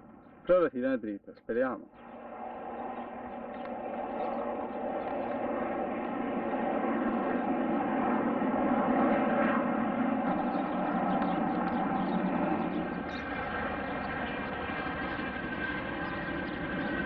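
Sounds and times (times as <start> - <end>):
plane flying past: 1.8 - 17.0.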